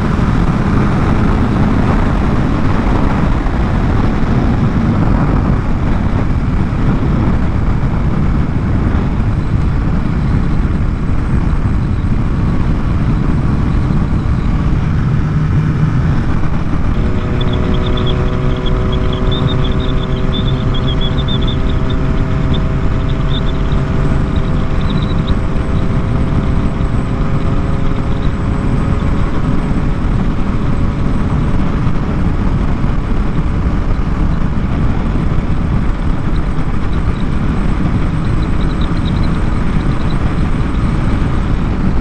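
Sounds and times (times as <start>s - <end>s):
droning tones: 0.0s - 42.0s
motorcycle engine running: 0.0s - 42.0s
wind rush: 0.0s - 42.0s.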